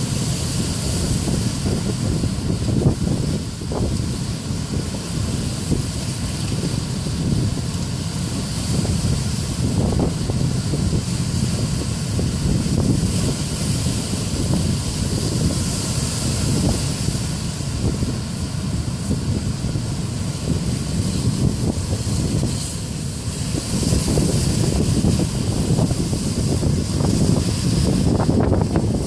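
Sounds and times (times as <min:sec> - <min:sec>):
surf hissing: 0:00.0 - 0:29.0
wind buffeting microphone: 0:00.0 - 0:29.0.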